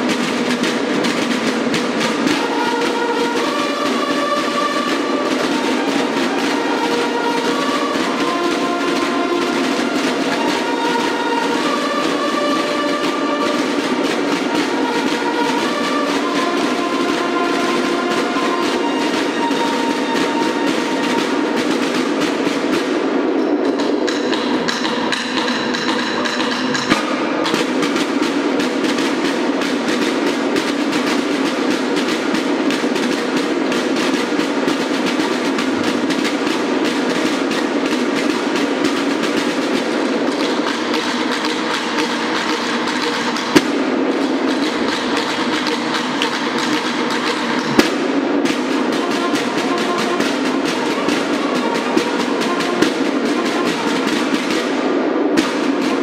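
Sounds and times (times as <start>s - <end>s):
snare drums playing march cadence: 0.0s - 56.0s.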